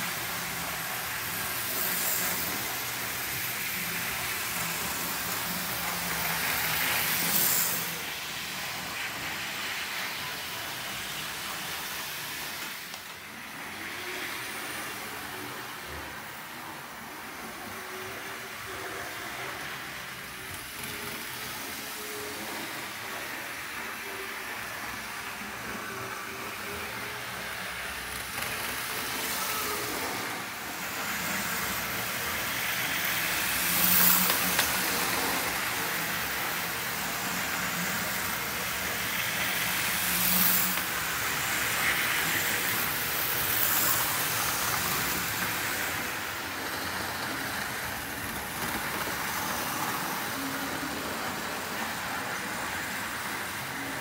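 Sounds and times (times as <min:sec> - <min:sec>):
model train whirr and rattle: 0:00.0 - 0:54.0.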